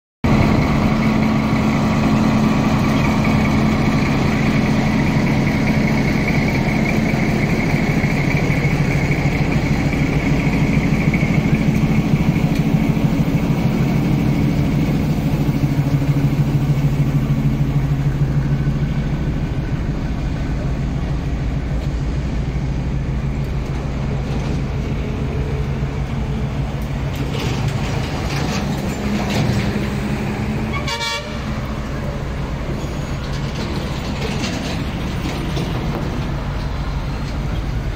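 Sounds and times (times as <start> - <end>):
diesel locomotive engine droning: 0.2 - 37.9.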